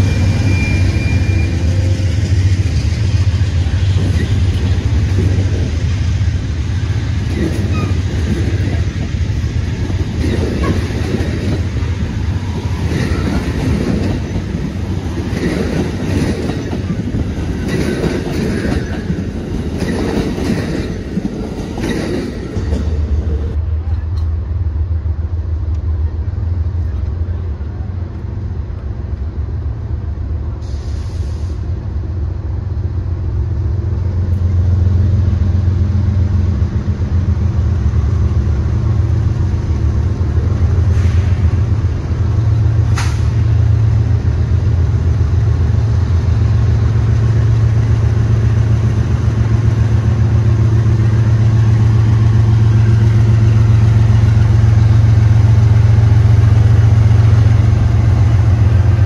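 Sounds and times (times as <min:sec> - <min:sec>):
diesel locomotive engine rumbling: 0:00.0 - 0:59.0.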